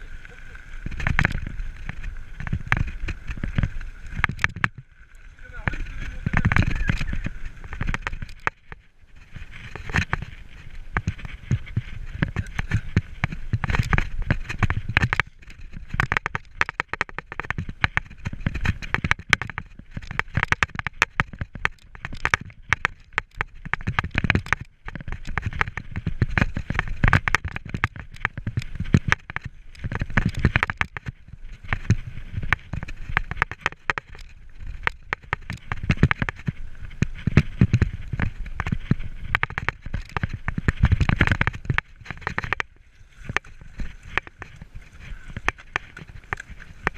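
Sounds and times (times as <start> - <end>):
bike tyres crackling on stones: 0.0 - 46.9.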